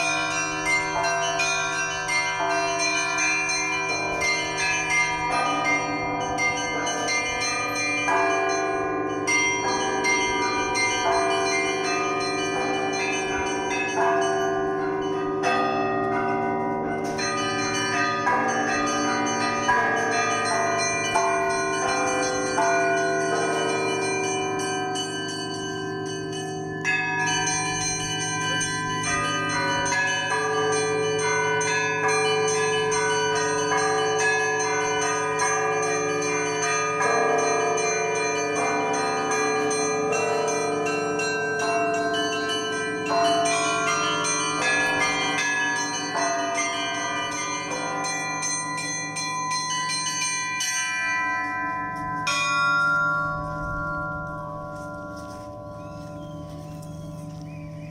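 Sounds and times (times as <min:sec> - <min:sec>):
church bells ringing: 0:00.0 - 0:57.9.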